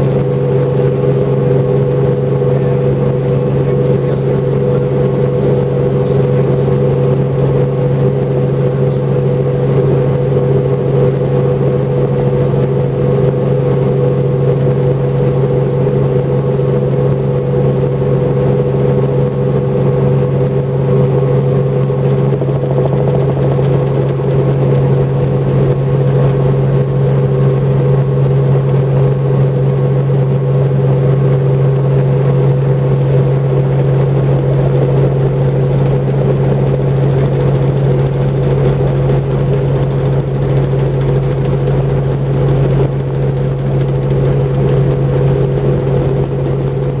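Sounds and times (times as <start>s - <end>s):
helicopter engine and rotors: 0.0s - 47.0s.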